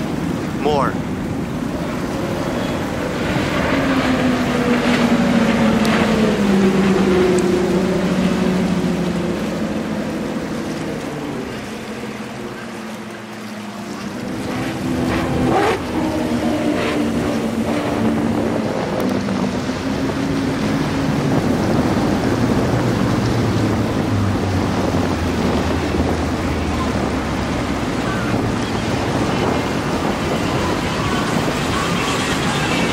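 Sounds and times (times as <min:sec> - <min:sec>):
outboard motors running: 0:00.0 - 0:32.9
rushing water and spray: 0:00.0 - 0:32.9.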